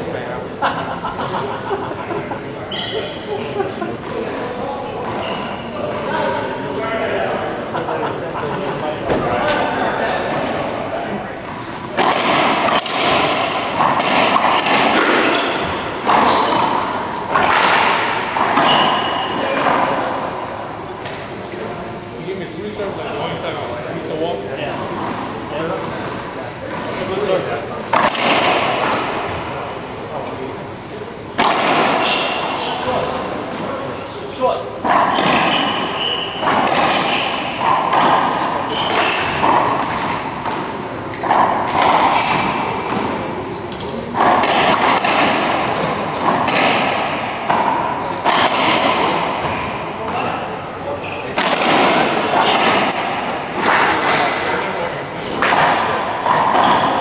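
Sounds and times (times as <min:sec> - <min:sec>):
racquetball hitting racquets and walls: 0:02.6 - 0:07.6, 0:08.4 - 0:22.1, 0:22.7 - 0:57.0.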